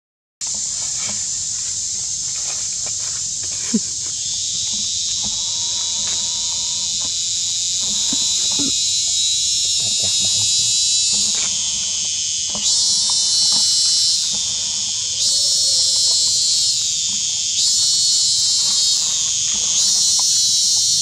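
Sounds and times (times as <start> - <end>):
cicadas buzzing: 0.4 - 21.0.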